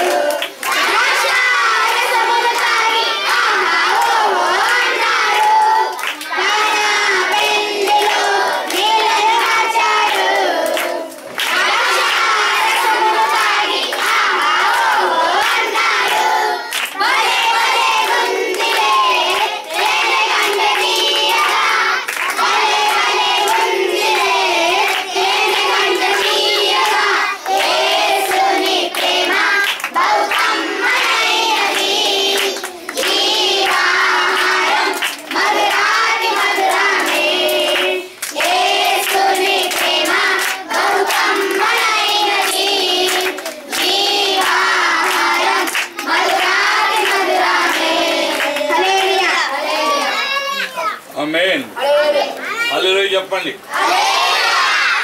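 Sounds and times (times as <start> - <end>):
hand claps: 0.0 - 49.3
boys singing together: 0.0 - 50.4, 53.6 - 55.0.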